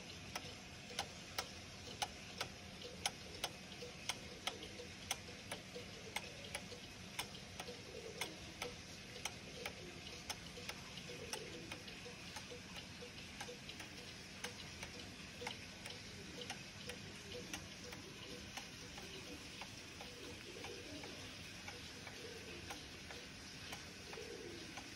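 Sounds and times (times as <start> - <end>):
clock ticking: 0.0 - 24.9.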